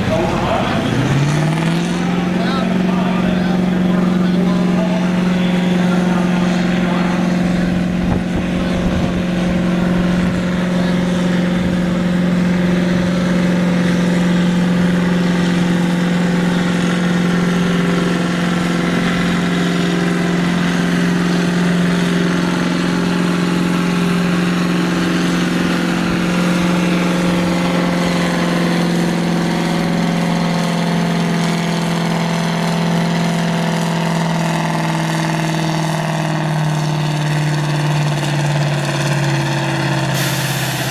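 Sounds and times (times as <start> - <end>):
tractor engine at high revs: 0.0 - 40.9.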